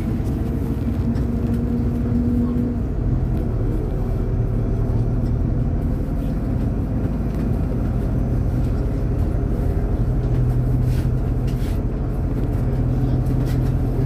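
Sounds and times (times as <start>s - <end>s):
bus engine drone: 0.0s - 14.0s
road noise: 0.0s - 14.0s.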